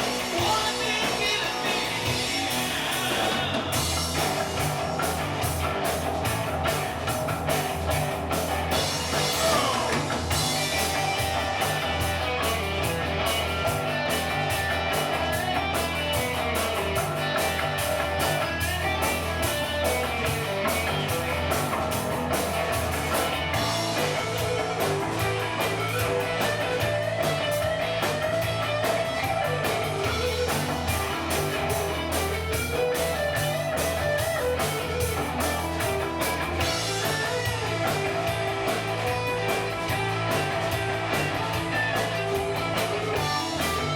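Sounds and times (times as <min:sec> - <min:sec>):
drum kit beat: 0:00.0 - 0:43.9
electric guitar: 0:00.0 - 0:43.9.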